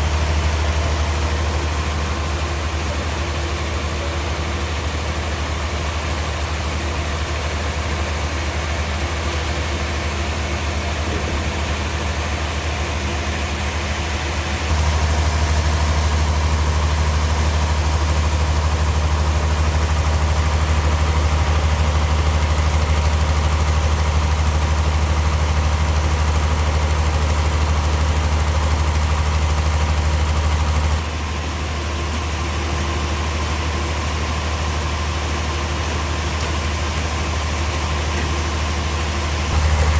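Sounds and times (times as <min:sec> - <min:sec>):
heavy machinery engine humming: 0:00.0 - 0:39.9.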